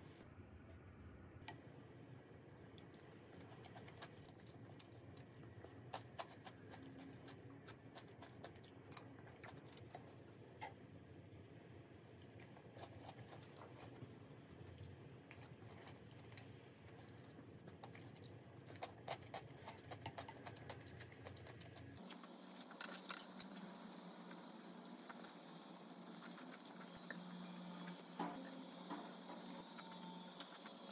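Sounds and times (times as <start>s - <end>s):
soft chewing: 2.6s - 10.8s, 11.5s - 30.9s.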